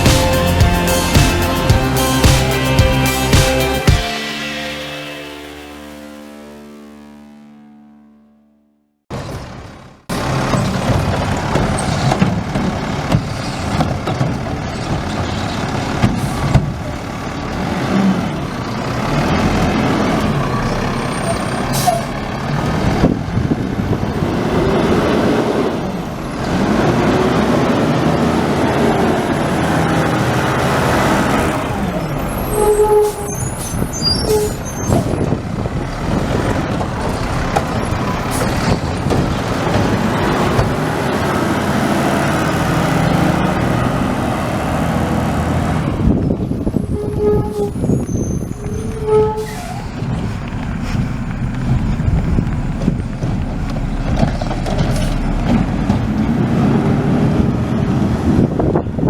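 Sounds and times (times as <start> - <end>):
garbage truck diesel engine: 0.0 - 7.2, 9.1 - 59.0.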